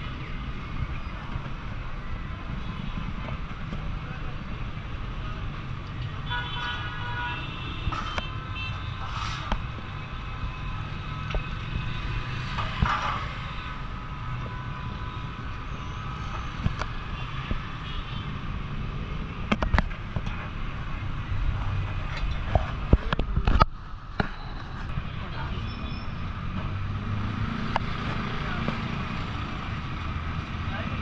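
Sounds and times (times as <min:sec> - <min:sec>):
low street traffic rumble: 0:00.0 - 0:31.0.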